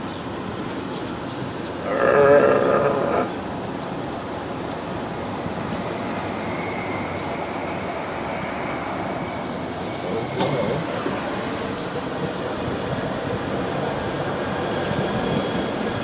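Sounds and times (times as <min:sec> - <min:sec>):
car and road noise: 0:00.0 - 0:16.0.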